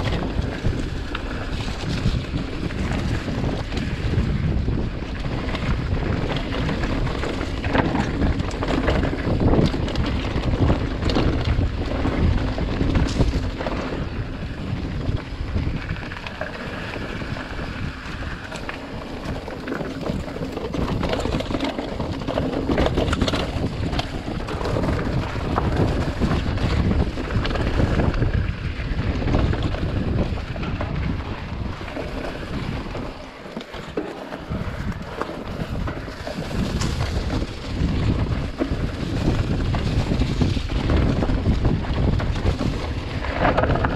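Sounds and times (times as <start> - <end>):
bike rattling over rocks: 0.0 - 43.9
tyres on loose gravel: 0.0 - 43.9
wind rushing over microphone: 0.0 - 43.9.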